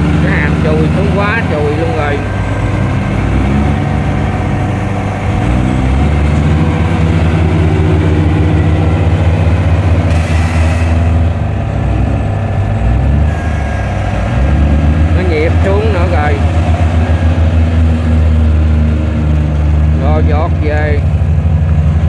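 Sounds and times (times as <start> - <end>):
diesel engine revving hard: 0.0 - 22.0.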